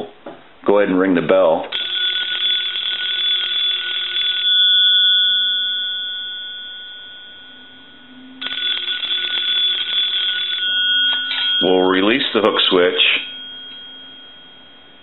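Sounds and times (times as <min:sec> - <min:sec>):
telephone bell ringing: 0:01.7 - 0:15.0.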